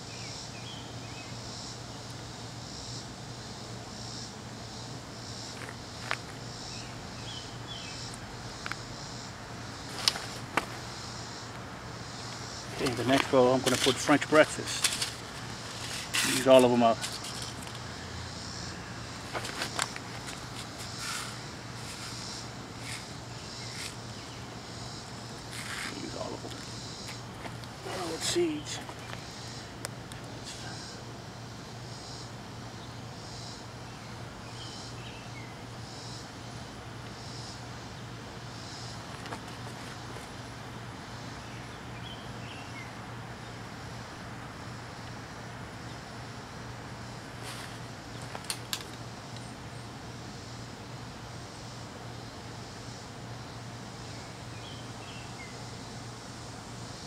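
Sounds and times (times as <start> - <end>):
constant low hum: 0.0 - 57.0
insect buzzing rhythmically: 0.0 - 57.0.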